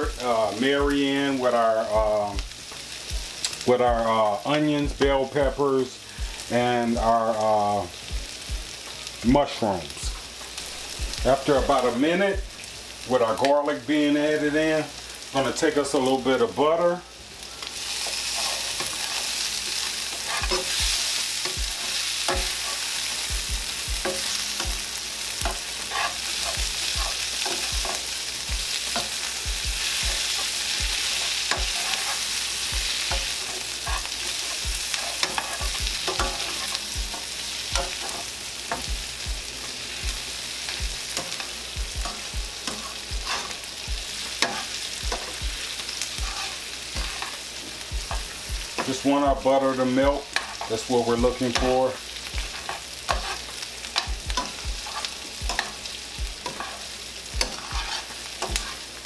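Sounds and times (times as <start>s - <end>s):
vegetables sizzling in a skillet: 0.0s - 59.0s.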